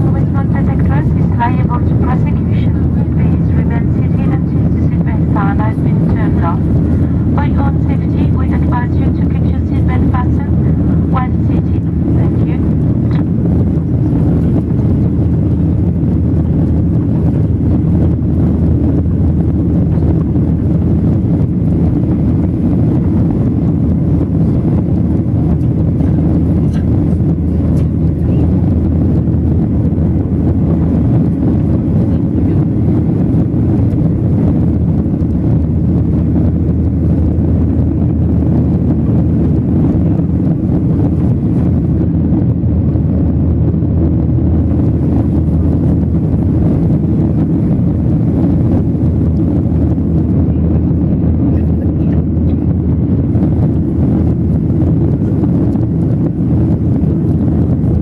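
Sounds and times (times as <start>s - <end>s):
jet engine rumble: 0.0s - 58.0s
rushing airflow: 0.0s - 58.0s.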